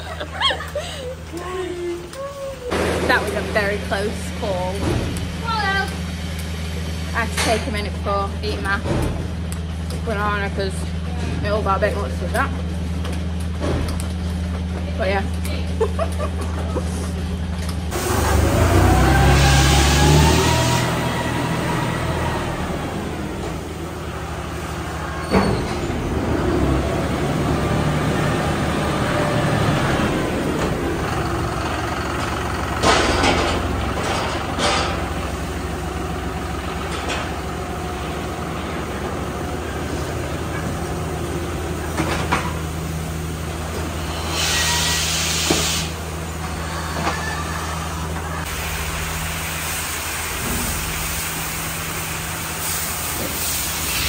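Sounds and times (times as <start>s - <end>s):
milking machinery humming: 0.0s - 54.0s.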